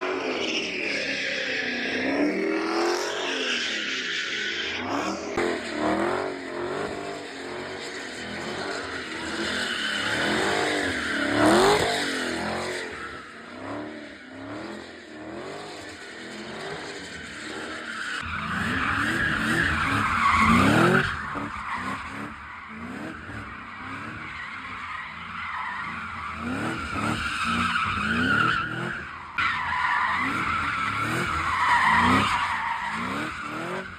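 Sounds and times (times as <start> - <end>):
tires screeching: 0.0 - 33.9
car engine revving: 4.7 - 33.9.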